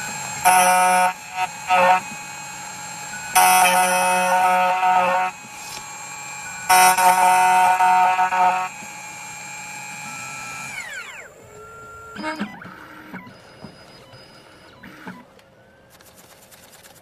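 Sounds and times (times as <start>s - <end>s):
key cutting machine motor whine: 0.0s - 15.4s.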